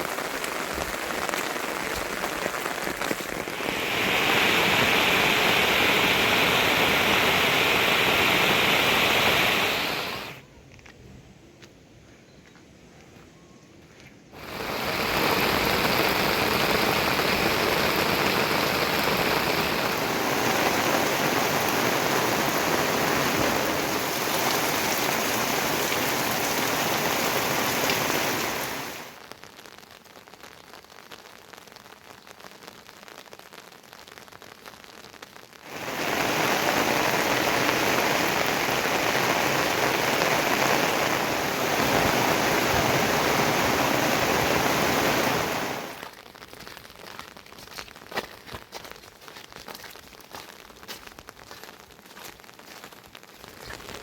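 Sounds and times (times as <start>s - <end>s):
heavy rain falling: 0.0s - 10.4s, 14.4s - 54.0s.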